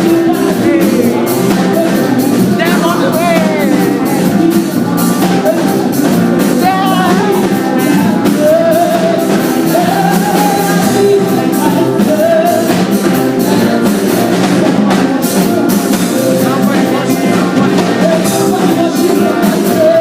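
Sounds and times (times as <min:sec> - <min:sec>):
person singing: 0:00.0 - 0:20.0
steady drum beat: 0:00.0 - 0:20.0.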